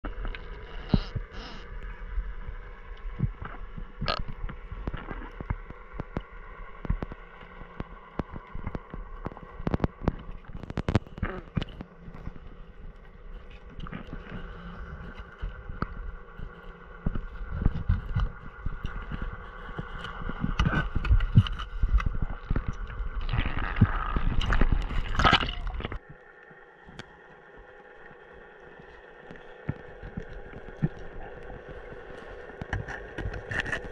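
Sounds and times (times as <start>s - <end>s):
steady multi-tone hum: 0.0s - 33.9s
underwater rushing: 0.0s - 33.9s
underwater knocks and scrapes: 0.1s - 26.1s, 28.8s - 33.9s.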